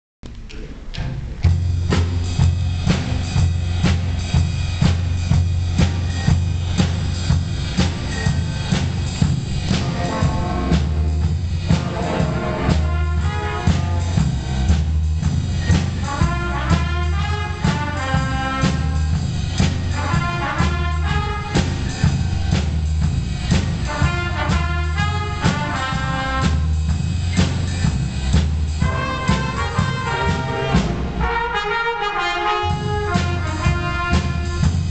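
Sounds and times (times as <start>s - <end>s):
upright bass: 0.2s - 31.2s, 32.7s - 34.9s
drum kit: 0.2s - 34.9s
trumpets and saxophones riffs: 1.9s - 34.9s.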